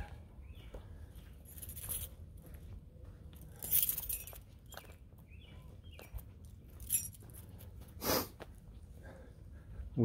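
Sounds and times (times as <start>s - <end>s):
footsteps: 0.0s - 10.0s.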